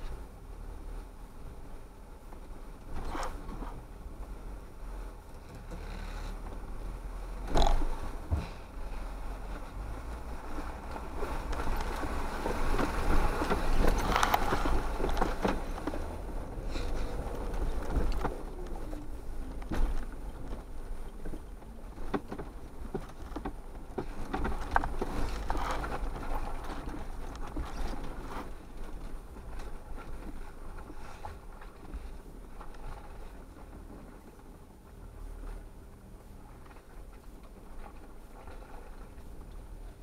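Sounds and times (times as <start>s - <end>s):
low engine rumble: 0.0s - 40.0s.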